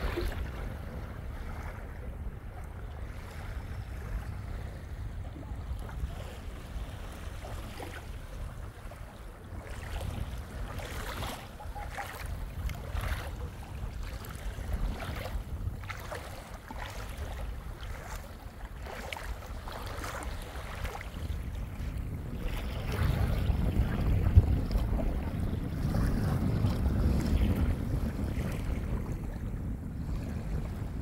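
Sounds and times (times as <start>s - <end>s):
small waves lapping on a beach: 0.0s - 31.0s
wind rumble on microphone: 0.0s - 31.0s.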